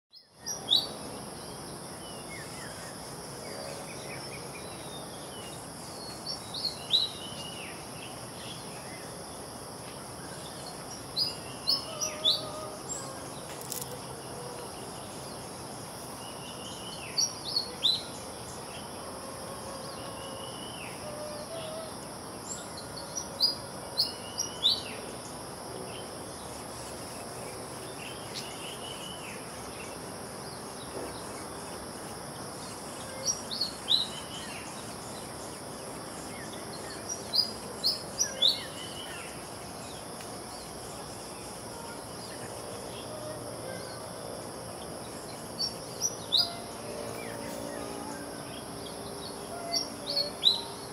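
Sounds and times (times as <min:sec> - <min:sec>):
insects droning: 0:00.1 - 0:50.9.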